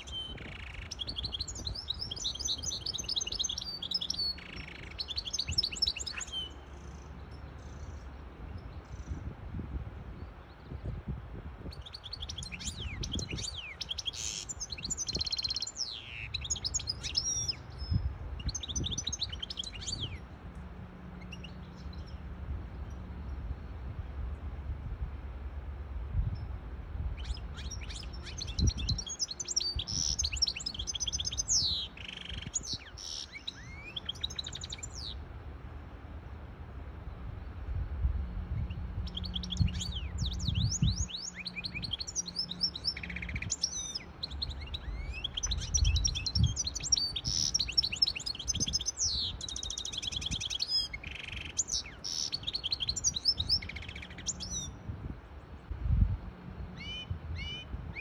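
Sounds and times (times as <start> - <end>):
bird twittering song: 0.0 - 9.3, 10.1 - 20.3, 21.1 - 24.4, 26.3 - 35.2, 38.5 - 54.9, 56.7 - 58.0.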